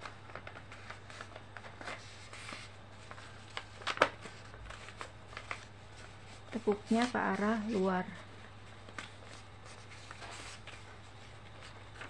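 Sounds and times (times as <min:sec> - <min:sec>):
low steady hum: 0:00.0 - 0:12.0
paper crackle: 0:00.0 - 0:12.0
paper rustling and creasing: 0:00.0 - 0:12.0.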